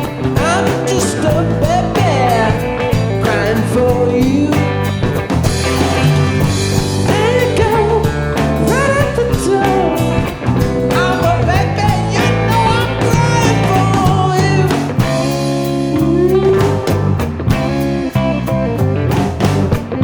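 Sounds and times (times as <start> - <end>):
live bluesy rock band: 0.0 - 20.0
sliding lead guitar melody: 0.0 - 20.0.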